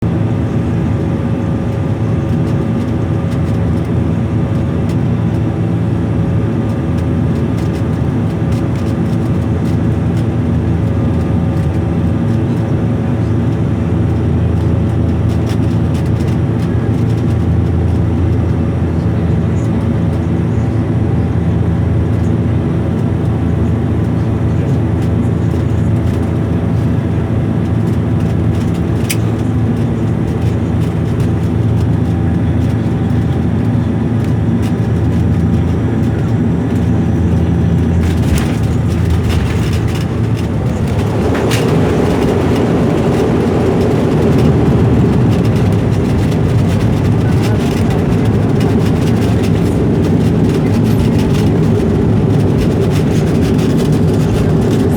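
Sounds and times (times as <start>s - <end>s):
airliner cabin engine drone: 0.0s - 54.9s
plane rolling on runway: 0.0s - 54.9s.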